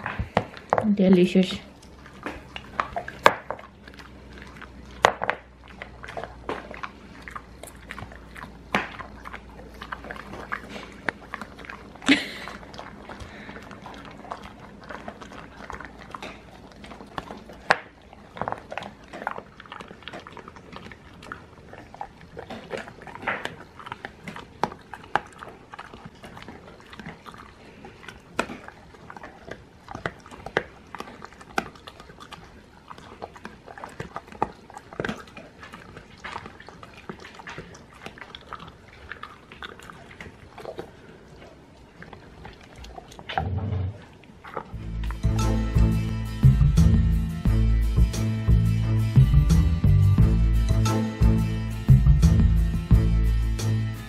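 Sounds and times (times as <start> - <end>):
dog chewing hard treat: 0.0 - 53.8.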